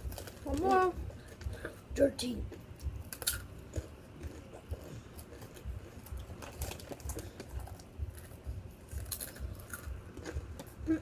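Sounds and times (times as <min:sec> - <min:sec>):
crunchy chips being chewed: 0:00.0 - 0:01.8, 0:02.5 - 0:11.0.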